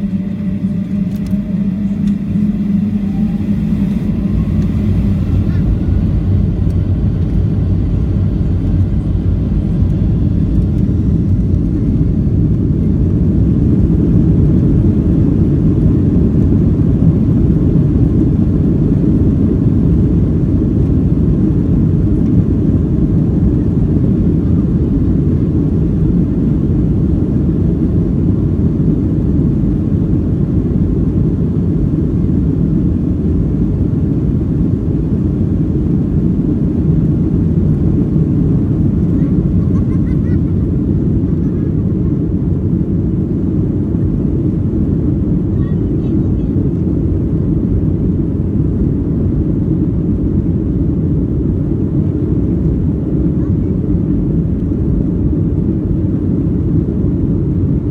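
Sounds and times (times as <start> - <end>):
jet engines low rumble: 0.0 - 57.9.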